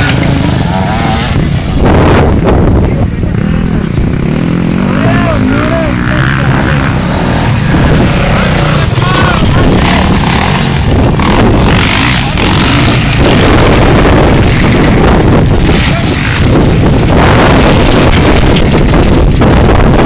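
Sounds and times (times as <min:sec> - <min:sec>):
dirt bike engine revving: 0:00.0 - 0:20.0
wind buffeting on microphone: 0:00.0 - 0:20.0.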